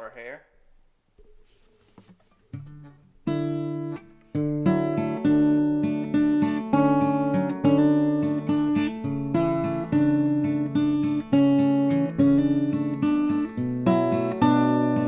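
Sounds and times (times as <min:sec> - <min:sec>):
acoustic guitar chords: 0:02.0 - 0:15.0.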